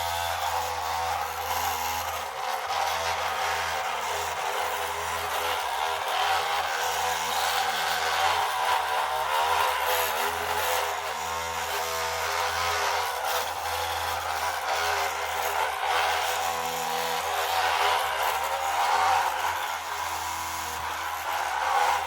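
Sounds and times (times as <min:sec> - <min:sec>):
model machine mechanical whirr: 0:00.0 - 0:22.0.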